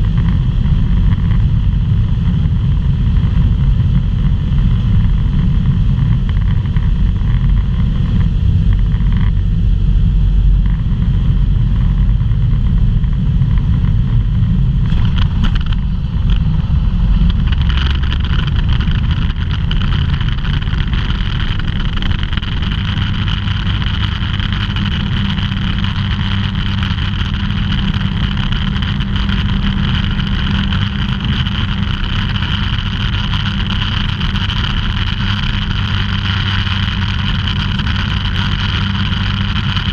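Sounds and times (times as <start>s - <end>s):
aircraft engine and propeller droning: 0.0s - 39.9s
rushing air in cabin: 0.0s - 39.9s.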